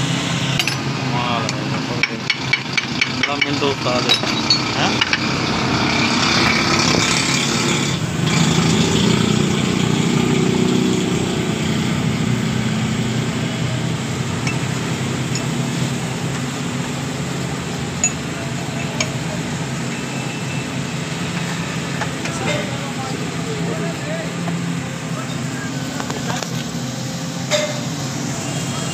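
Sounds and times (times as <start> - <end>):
engine drone: 0.0 - 28.9.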